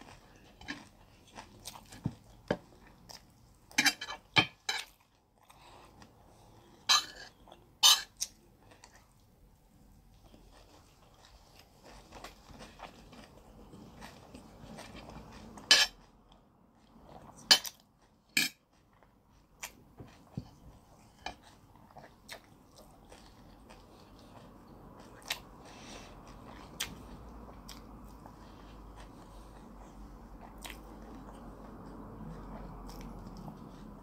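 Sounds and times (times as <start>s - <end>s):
chewing: 0.0s - 34.0s.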